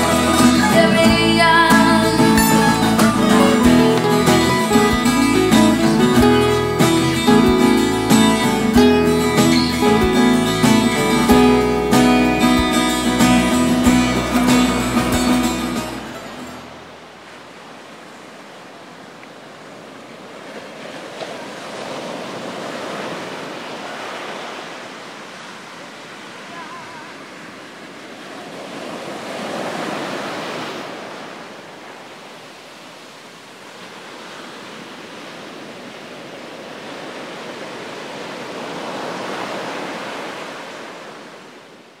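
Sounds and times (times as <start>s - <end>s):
ocean waves breaking on beach: 0.0s - 42.0s.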